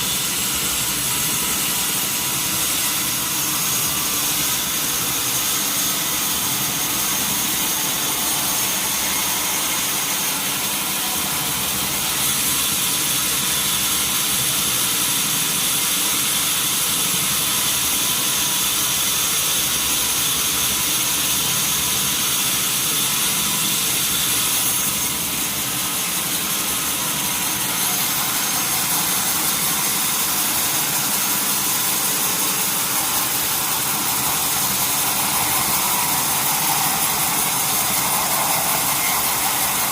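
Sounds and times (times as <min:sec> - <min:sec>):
sawmill saw machinery whining: 0:00.0 - 0:39.9.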